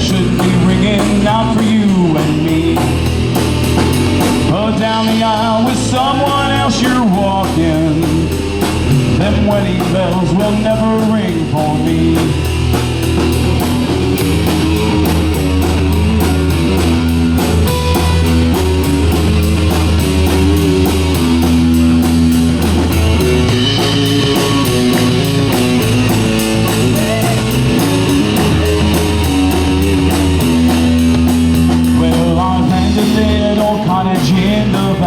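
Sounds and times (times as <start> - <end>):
bass guitar: 0.0 - 35.0
electric guitar: 0.0 - 35.0
steady drum beat: 0.0 - 35.0.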